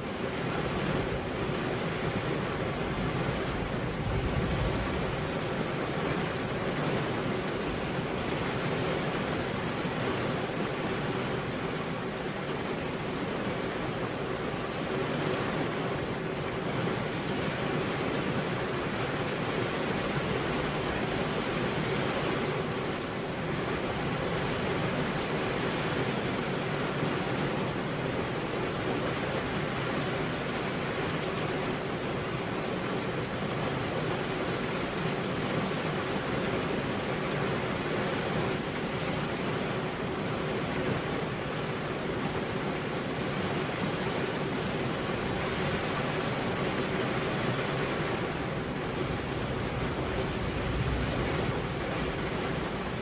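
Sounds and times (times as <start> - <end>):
heavy rain on a road: 0.0 - 53.0.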